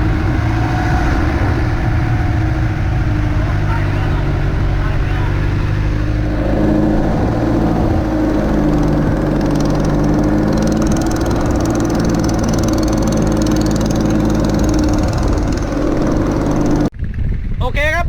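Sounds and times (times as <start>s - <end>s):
boat engine running: 0.0s - 16.9s.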